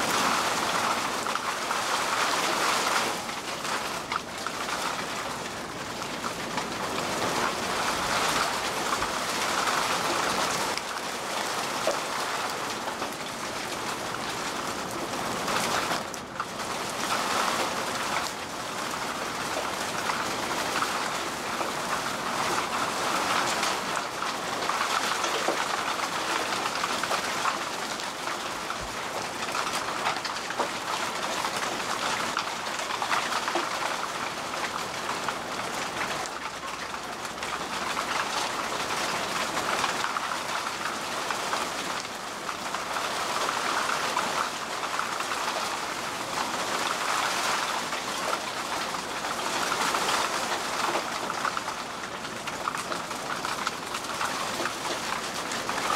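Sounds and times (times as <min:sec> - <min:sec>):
heavy rain on wet road: 0:00.0 - 0:55.9.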